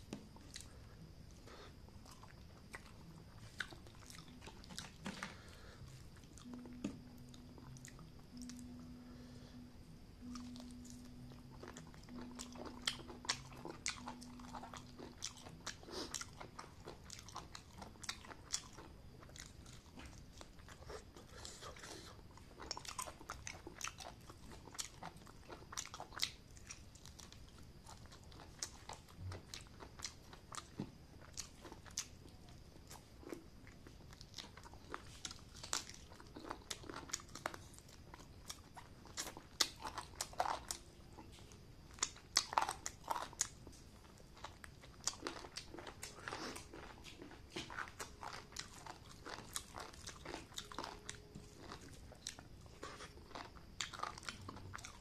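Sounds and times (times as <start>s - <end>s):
wet chewing clicks: 10.2s - 55.0s.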